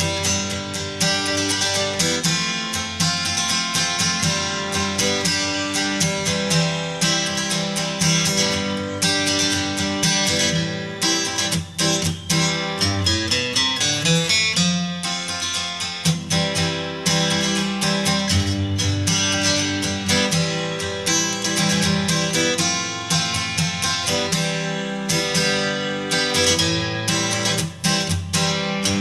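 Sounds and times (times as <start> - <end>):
plucked and strummed acoustic guitar: 0.0 - 29.0.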